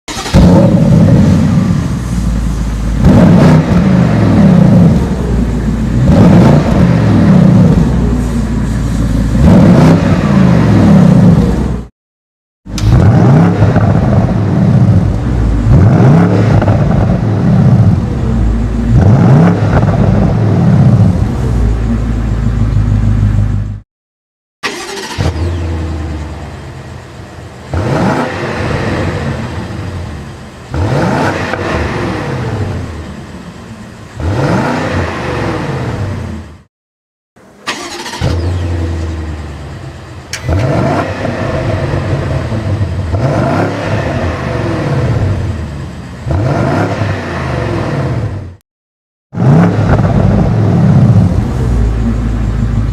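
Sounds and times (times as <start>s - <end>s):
car engine revving: 0.1s - 11.9s, 12.7s - 23.8s, 24.6s - 36.6s, 37.4s - 48.6s, 49.3s - 52.9s.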